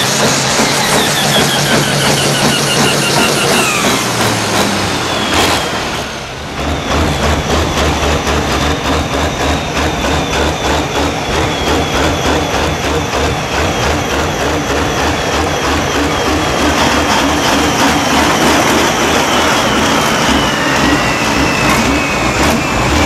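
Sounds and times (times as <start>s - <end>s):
deep pulsing engine rumble: 0.0s - 23.0s
tractor diesel engines running loud: 0.0s - 23.0s.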